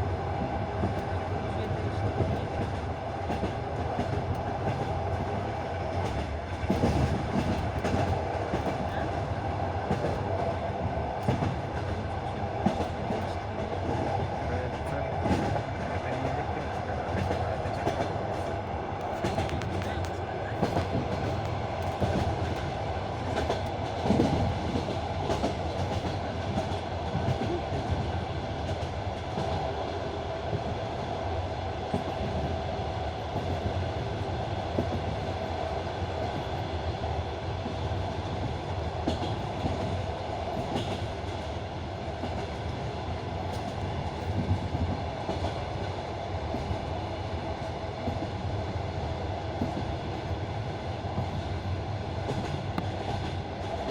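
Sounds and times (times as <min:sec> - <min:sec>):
train rumble inside carriage: 0:00.0 - 0:53.9.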